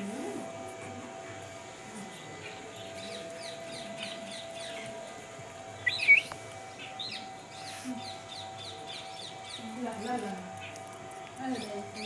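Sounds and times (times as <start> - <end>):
small birds chirping: 2.3 - 12.0.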